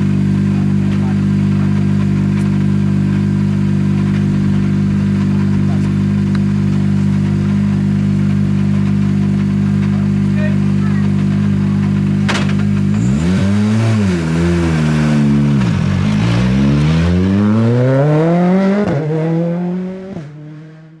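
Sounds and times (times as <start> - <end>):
rally car engine idling and revving: 0.0 - 21.0.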